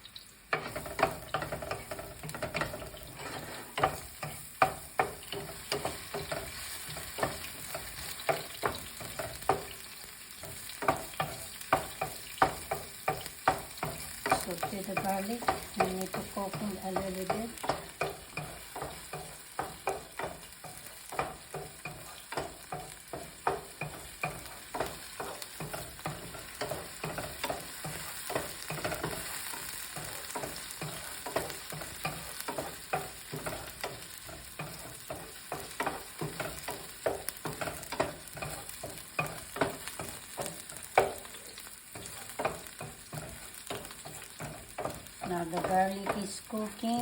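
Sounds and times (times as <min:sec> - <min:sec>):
garlic and onion sizzling in oil: 0:00.0 - 0:47.0
utensil knocking and scraping pan: 0:00.5 - 0:47.0.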